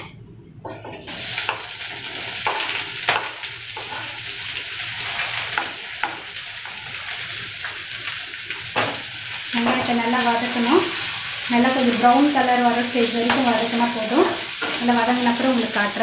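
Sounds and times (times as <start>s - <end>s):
onions sizzling in hot oil: 1.0s - 16.0s.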